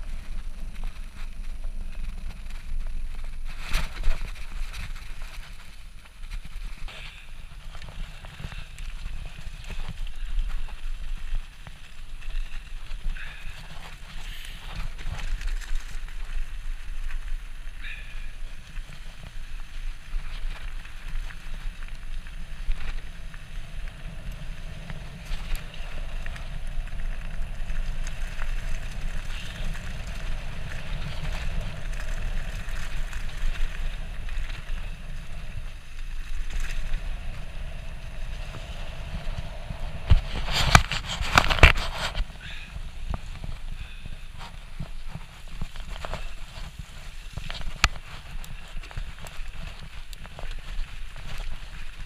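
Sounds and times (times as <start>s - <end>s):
bicycle tyre noise: 0.0s - 52.0s
wind rumble on microphone: 0.0s - 52.0s.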